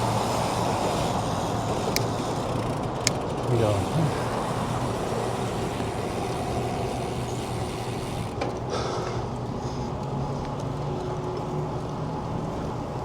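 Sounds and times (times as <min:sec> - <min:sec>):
road traffic: 0:00.0 - 0:13.0
vehicle engine low hum: 0:00.0 - 0:13.0.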